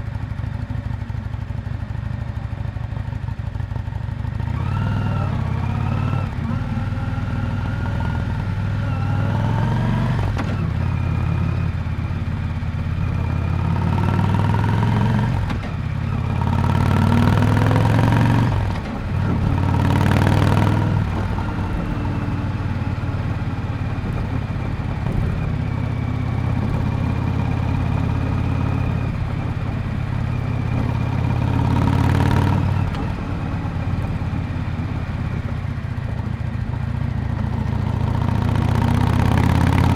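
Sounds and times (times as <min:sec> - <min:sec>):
motorcycle engine exhaust: 0:00.1 - 0:39.9.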